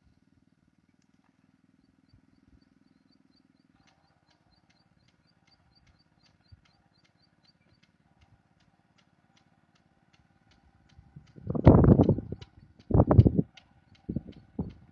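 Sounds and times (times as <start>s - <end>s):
faint low hum: 0.0s - 14.9s
faint high ticking: 2.0s - 14.9s.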